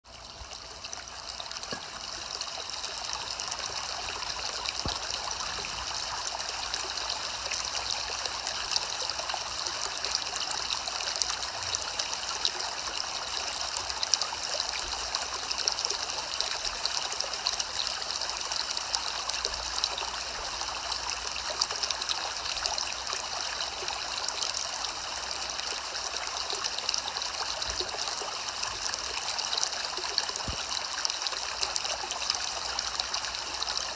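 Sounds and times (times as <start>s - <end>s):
soft rain patter: 0.0s - 33.9s.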